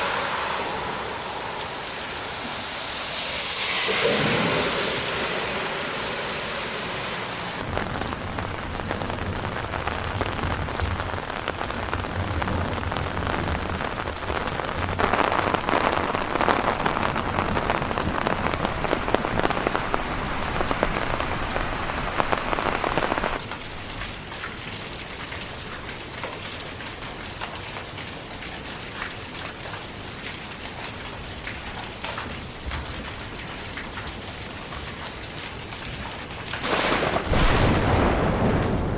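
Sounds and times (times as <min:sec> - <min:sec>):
rain falling: 0:00.0 - 0:38.9
raindrops striking surfaces: 0:00.0 - 0:38.9.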